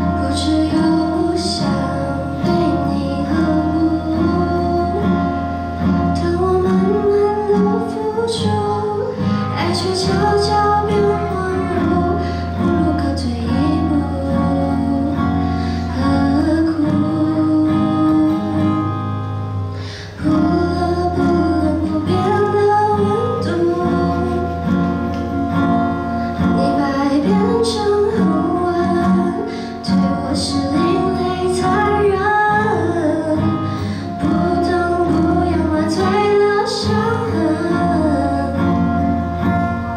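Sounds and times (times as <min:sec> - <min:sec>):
woman singing: 0:00.0 - 0:19.2, 0:19.8 - 0:39.8
acoustic guitar: 0:00.0 - 0:39.9.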